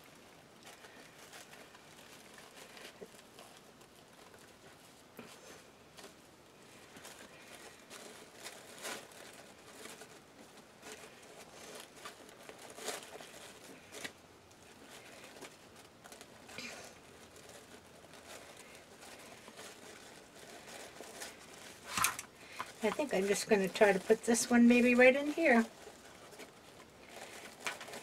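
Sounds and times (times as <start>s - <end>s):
ribbon and mesh crinkling: 0.0s - 28.0s.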